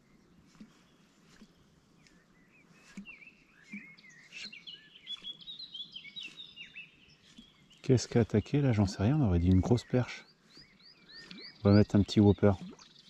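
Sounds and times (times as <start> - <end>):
songbird singing quick chirps: 0.0 - 13.0.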